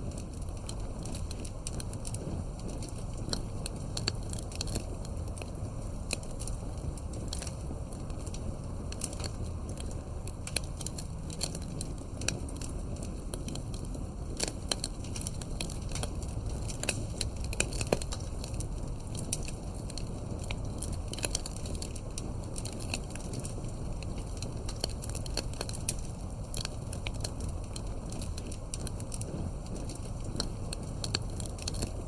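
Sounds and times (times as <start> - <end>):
campfire crackling and popping: 0.0 - 32.0
low rumble of burning: 0.0 - 32.0.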